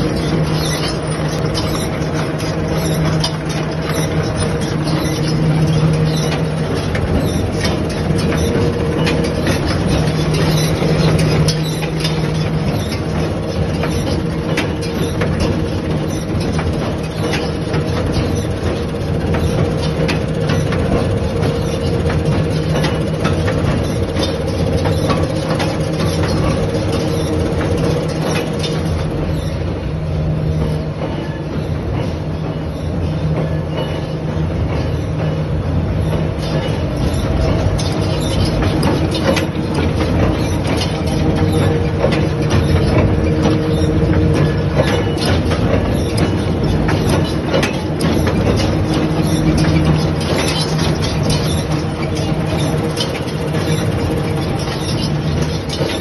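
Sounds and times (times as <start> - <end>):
baler mechanical clatter: 0.0 - 56.0
constant machine hum: 0.0 - 56.0.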